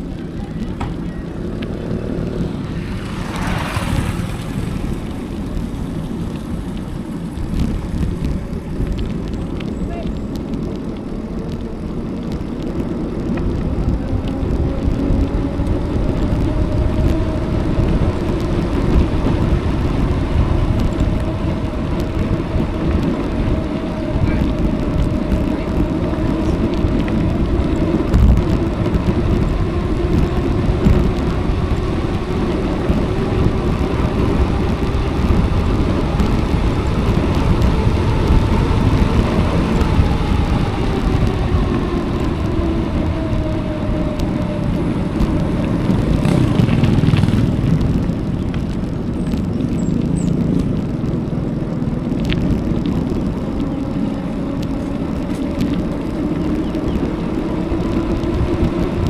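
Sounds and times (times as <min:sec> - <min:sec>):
bicycle riding noise: 0:00.0 - 0:59.0
wind buffeting microphone: 0:00.0 - 0:59.0.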